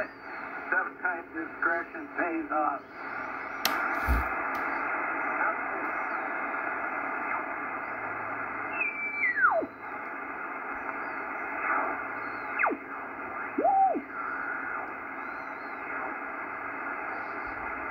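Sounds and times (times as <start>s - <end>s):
radio band hiss: 0.0s - 17.9s.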